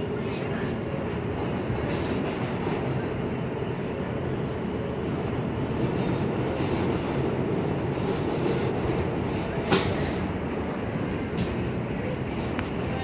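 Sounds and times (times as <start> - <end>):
subway car rumbling on rails: 0.0 - 13.0.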